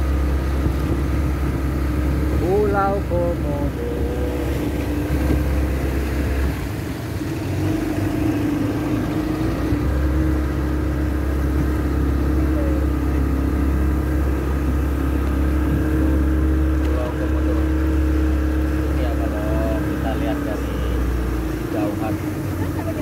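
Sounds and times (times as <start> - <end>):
outboard motor humming: 0.0 - 23.0.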